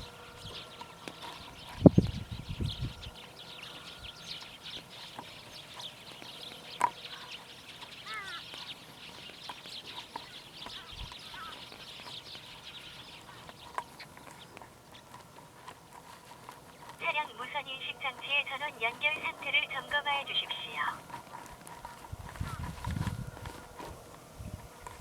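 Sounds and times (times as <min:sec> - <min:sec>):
birds chattering: 0:00.0 - 0:25.0.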